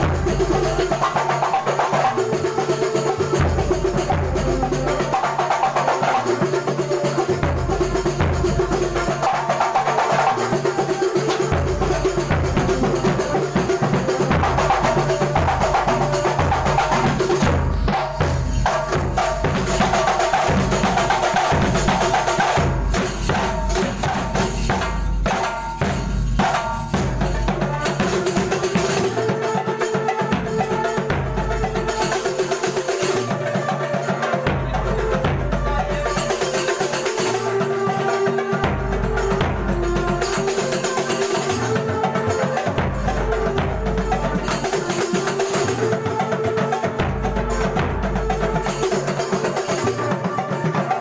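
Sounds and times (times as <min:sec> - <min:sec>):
frame drums: 0:00.0 - 0:51.0.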